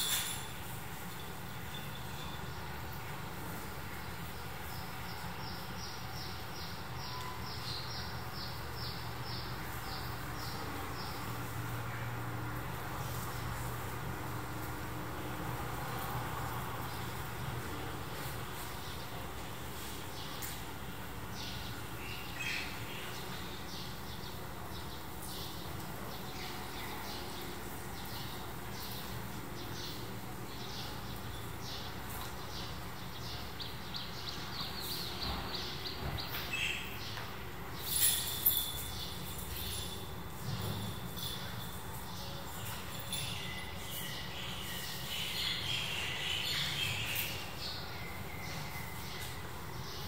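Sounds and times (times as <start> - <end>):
small birds chirping: 1.0 - 12.1, 18.1 - 40.1, 41.2 - 50.0.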